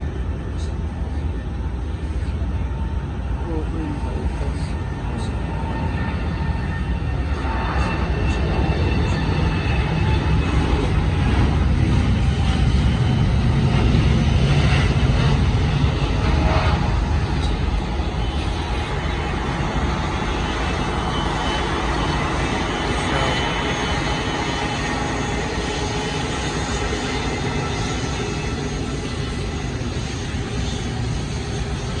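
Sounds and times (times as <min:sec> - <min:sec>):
jet engine rumble: 0:00.0 - 0:32.0.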